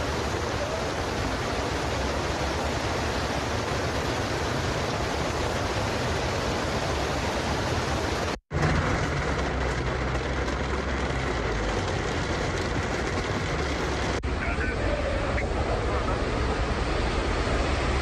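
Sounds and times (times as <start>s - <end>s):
flowing floodwater: 0.0s - 18.0s
heavy rain: 0.0s - 18.0s.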